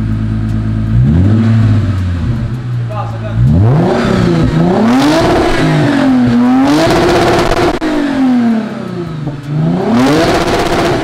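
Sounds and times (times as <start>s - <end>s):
car engine revving loud: 0.6s - 11.0s.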